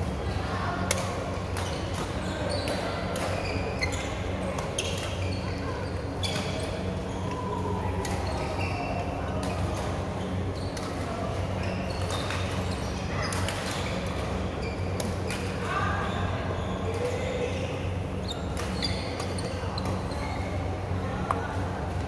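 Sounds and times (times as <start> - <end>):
court shoes squeaking: 0.1 - 20.8.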